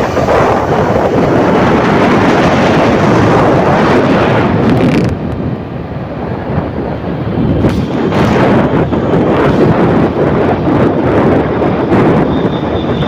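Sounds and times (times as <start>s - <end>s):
loud steady rushing noise: 0.0s - 13.0s.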